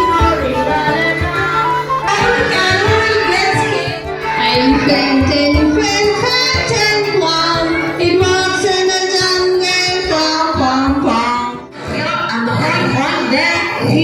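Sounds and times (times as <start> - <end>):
high voice singing: 0.0 - 14.0
instrumental backing: 0.0 - 14.0.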